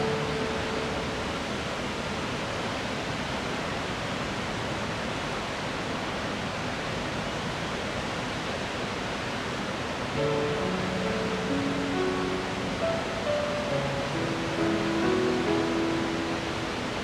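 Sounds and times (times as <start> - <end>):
waterfall rushing: 0.0 - 6.7, 7.9 - 17.0.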